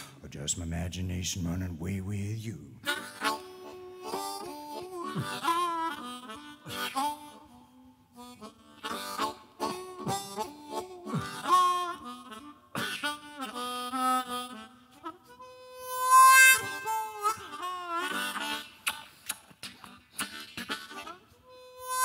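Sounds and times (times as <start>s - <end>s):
harmonica solo: 0.0s - 22.0s.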